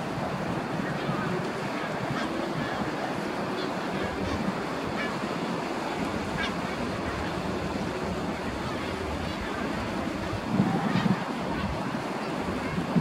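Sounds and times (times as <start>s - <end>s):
sea waves on rocky shore: 0.0s - 13.0s
wind on microphone: 0.0s - 13.0s.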